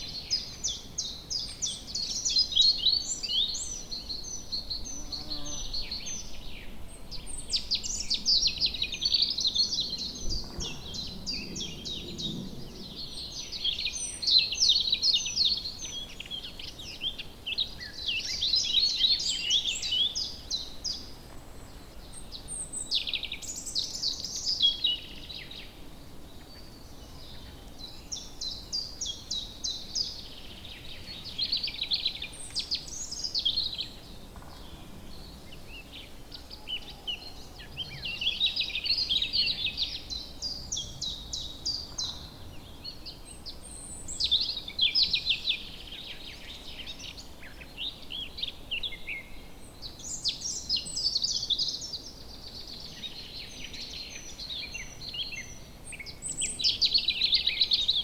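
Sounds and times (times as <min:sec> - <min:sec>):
songbirds trilling and chirping: 0:00.0 - 0:58.0.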